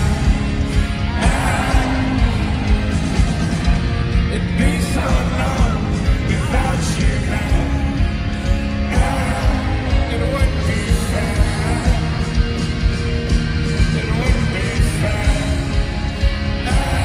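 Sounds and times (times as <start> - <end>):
drums keeping a steady beat: 0.0 - 17.0
rock band playing live: 0.0 - 17.0.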